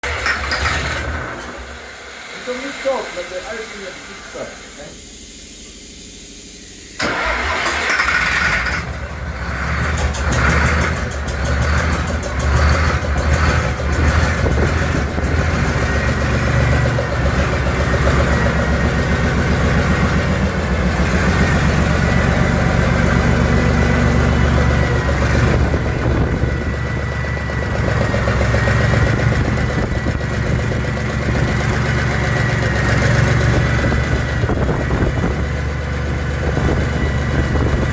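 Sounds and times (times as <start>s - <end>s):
diesel truck engine starting and idling: 0.0s - 37.9s.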